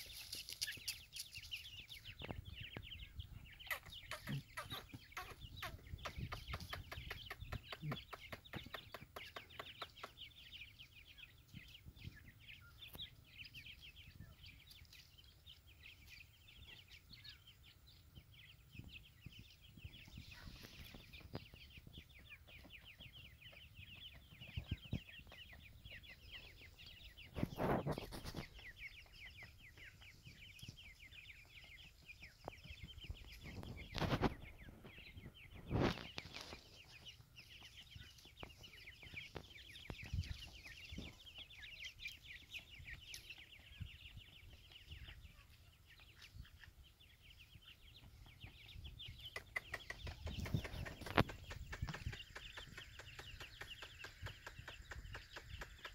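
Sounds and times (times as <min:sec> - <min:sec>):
chicks peeping: 0:00.0 - 0:55.9.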